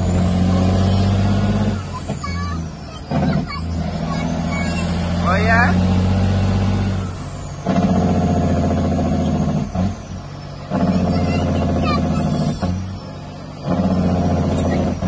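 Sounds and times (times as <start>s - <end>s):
truck diesel engine pulling hard: 0.0s - 15.0s.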